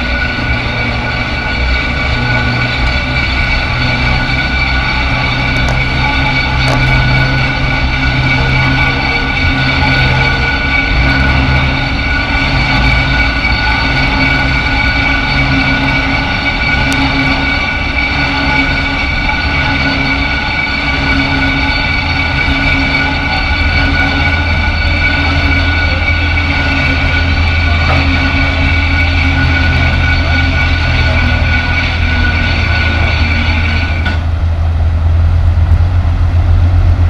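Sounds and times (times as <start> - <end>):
tugboat diesel engines droning: 0.0 - 37.0.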